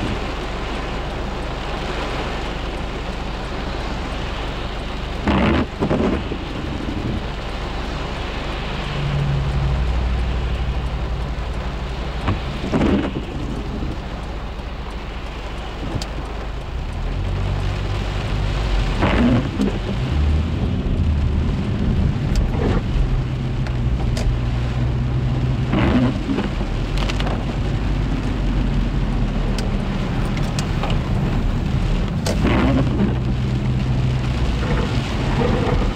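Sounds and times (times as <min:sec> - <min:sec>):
heavy rain drumming on car roof: 0:00.0 - 0:35.9
low steady hum: 0:00.0 - 0:35.9.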